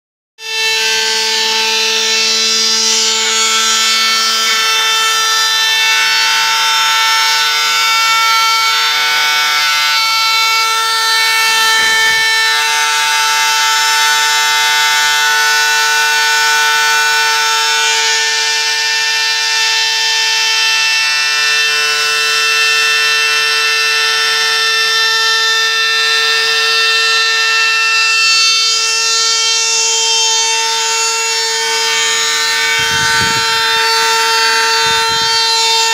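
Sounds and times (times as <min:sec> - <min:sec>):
engraving machine motor whine: 0:00.4 - 0:35.9.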